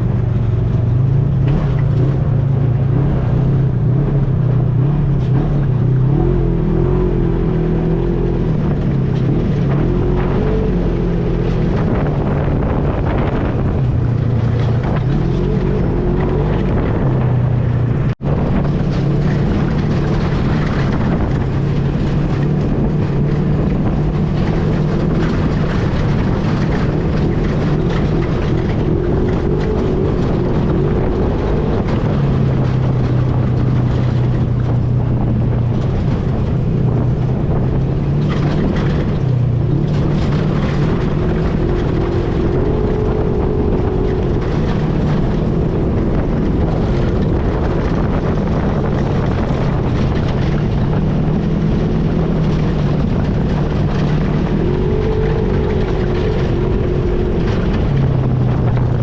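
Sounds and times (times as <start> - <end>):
atv engine running: 0.0 - 59.0
wind on microphone: 0.0 - 59.0.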